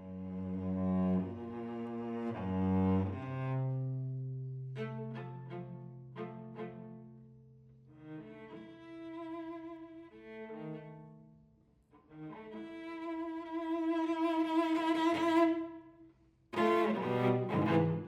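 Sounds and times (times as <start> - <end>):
bowed cello: 0.0 - 18.0.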